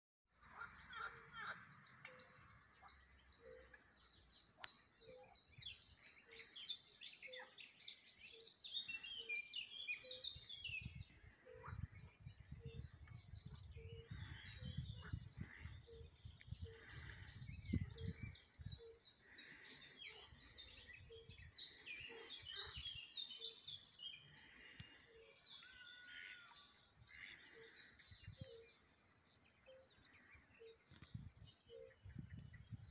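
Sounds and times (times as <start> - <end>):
songbirds singing and chirping: 0.4 - 32.9.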